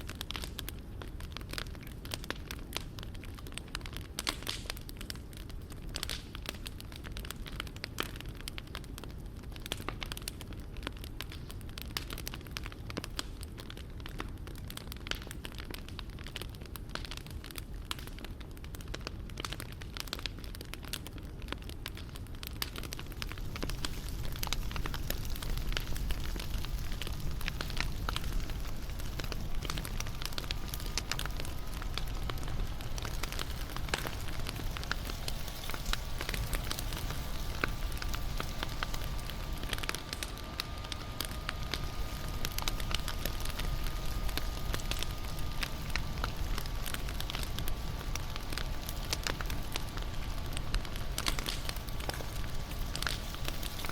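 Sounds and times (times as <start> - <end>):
bonfire crackling and popping: 0.0 - 53.9
low rumble of flames: 0.0 - 53.9.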